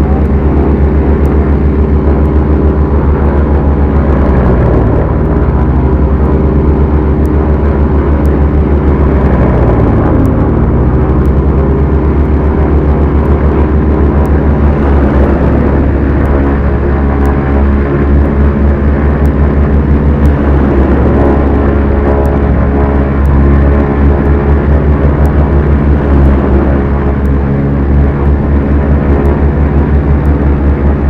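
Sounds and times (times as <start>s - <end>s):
propeller engines droning: 0.0s - 31.0s.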